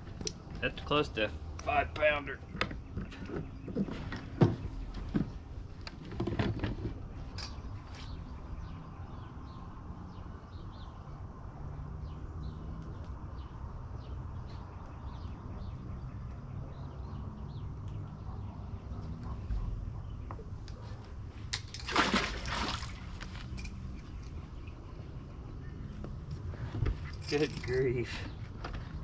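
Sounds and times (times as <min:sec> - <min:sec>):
small birds chirping: 0:00.2 - 0:06.0, 0:07.0 - 0:21.5, 0:22.8 - 0:29.0.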